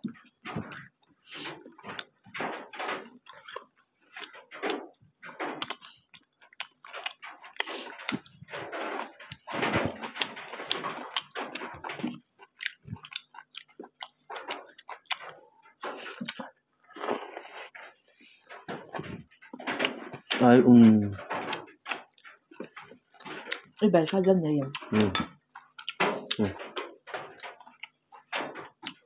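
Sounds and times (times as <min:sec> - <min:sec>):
food squelches and clicks: 0:00.0 - 0:29.0
people chewing and smacking: 0:00.0 - 0:29.0.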